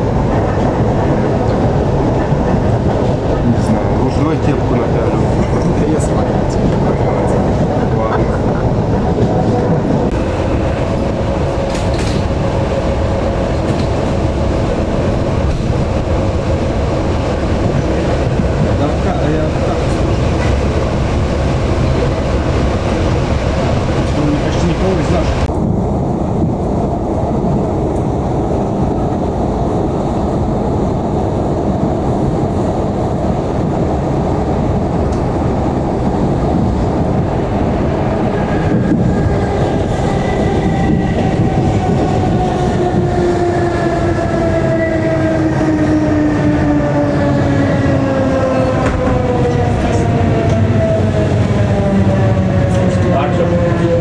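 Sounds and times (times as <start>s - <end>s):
rail clicks: 0.0s - 54.0s
train rumbling on rails: 0.0s - 54.0s.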